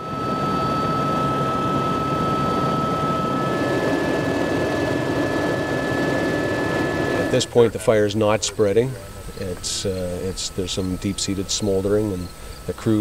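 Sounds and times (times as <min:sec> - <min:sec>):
helicopter rotor and engine noise: 0:00.0 - 0:13.0
high whine: 0:00.0 - 0:13.0.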